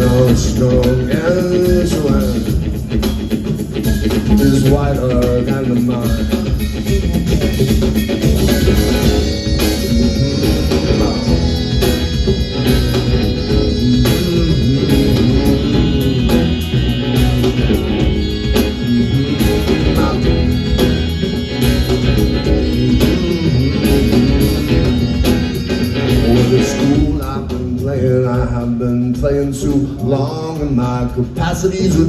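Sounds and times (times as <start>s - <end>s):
bass lines: 0.0s - 32.0s
guitar: 0.0s - 32.0s
steady drum beat: 0.0s - 32.0s.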